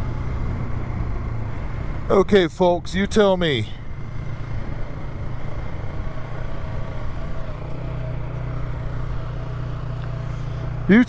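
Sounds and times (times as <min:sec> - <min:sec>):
atv engine running steadily: 0:00.0 - 0:11.0.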